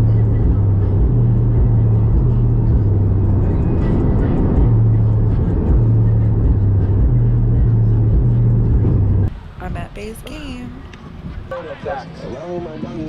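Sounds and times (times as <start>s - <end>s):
car road noise: 0.0s - 13.0s
car stereo music with bass: 0.0s - 13.0s.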